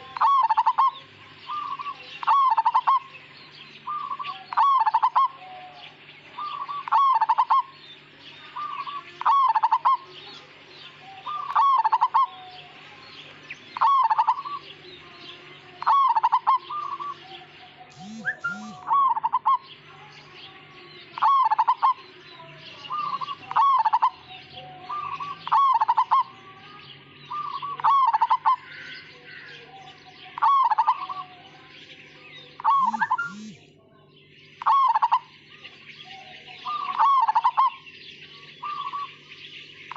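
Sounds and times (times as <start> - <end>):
dove cooing: 0.0 - 3.2, 3.9 - 7.8, 8.5 - 19.8, 21.1 - 26.5, 27.2 - 31.5, 32.6 - 33.6, 34.6 - 35.3, 36.0 - 39.2.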